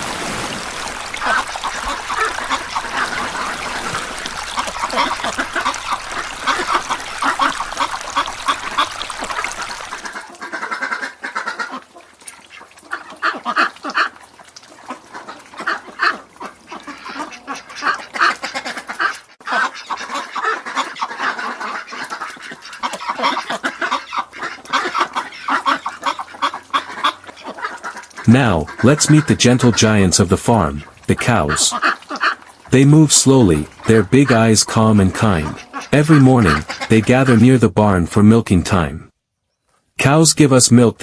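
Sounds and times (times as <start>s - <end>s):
poultry calling in chorus: 1.2s - 14.2s, 14.8s - 29.8s, 30.6s - 32.6s, 33.6s - 37.4s.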